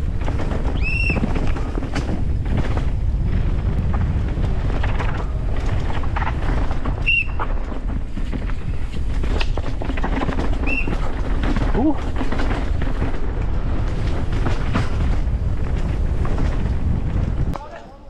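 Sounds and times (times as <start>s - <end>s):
wind rush: 0.0s - 17.6s
bike rattling over terrain: 0.0s - 17.7s.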